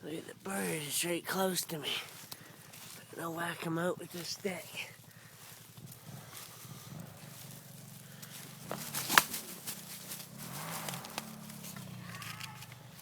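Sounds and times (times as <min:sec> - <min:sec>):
footsteps outdoors: 0:00.0 - 0:13.0
rustling: 0:01.6 - 0:13.0.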